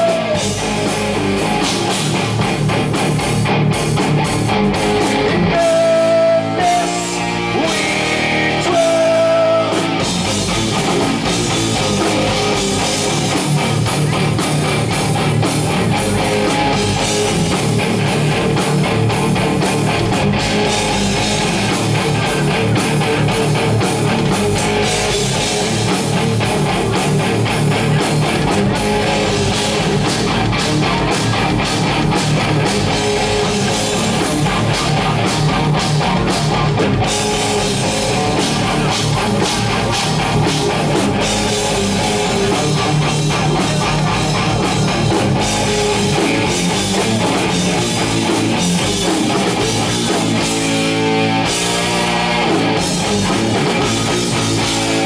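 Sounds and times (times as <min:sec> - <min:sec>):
bass guitar: 0:00.0 - 0:55.0
distorted electric guitars: 0:00.0 - 0:55.0
drum kit beat: 0:00.0 - 0:55.0.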